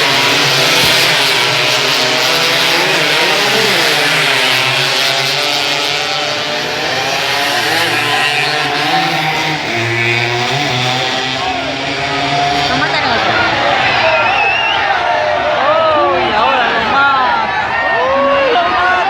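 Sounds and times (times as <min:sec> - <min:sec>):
racing motorcycle engines: 0:00.0 - 0:19.0.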